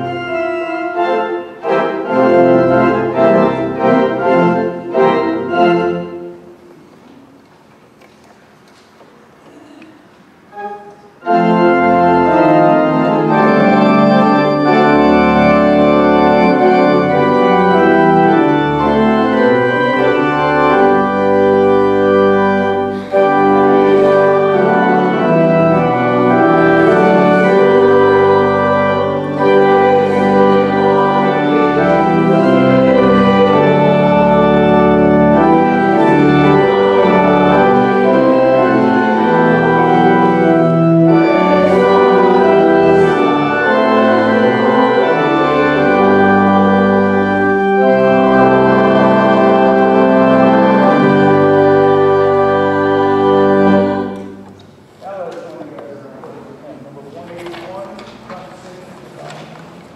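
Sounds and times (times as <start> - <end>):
pipe organ playing chords: 0.0 - 7.1, 10.3 - 59.9.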